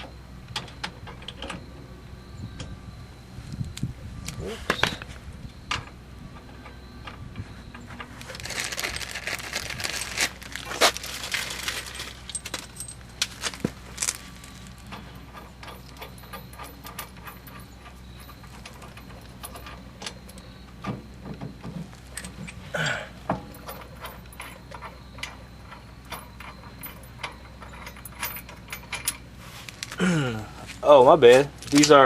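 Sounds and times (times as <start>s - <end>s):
metal parts clinking and rattling: 4.2s - 22.6s, 23.2s - 30.0s, 30.6s - 32.0s.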